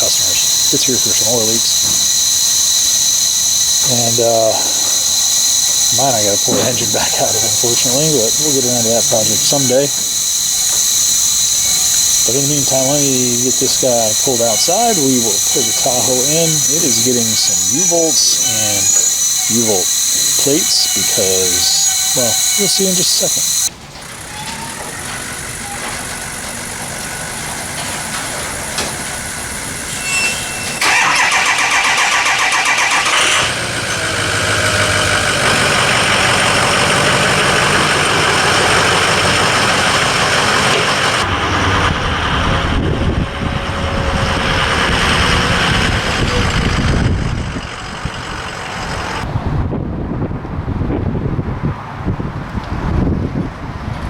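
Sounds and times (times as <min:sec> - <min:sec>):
engine starter cranking: 0:00.0 - 0:49.3
engine running steadily: 0:00.0 - 0:49.6.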